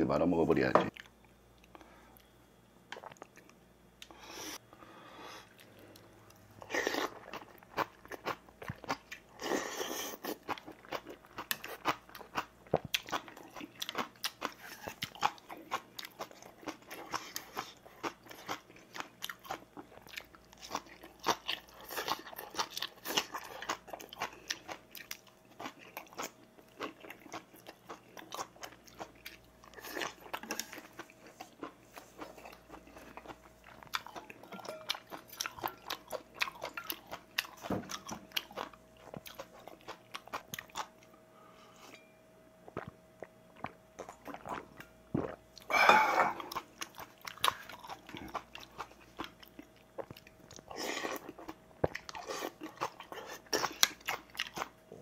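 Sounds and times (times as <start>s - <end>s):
man chewing and crunching: 5.4s - 41.1s, 42.6s - 55.0s.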